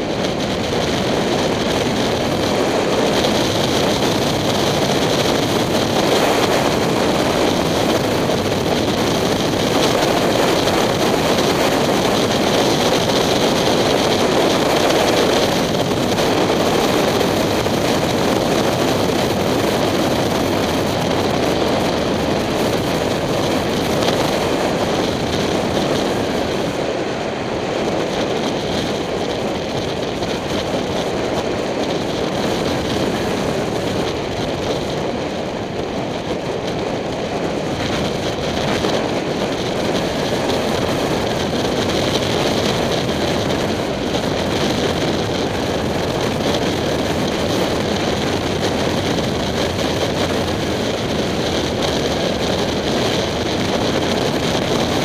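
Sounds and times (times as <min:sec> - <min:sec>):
motorcycle engine running: 0:00.0 - 0:55.0
wind rushing over camera: 0:00.0 - 0:55.0.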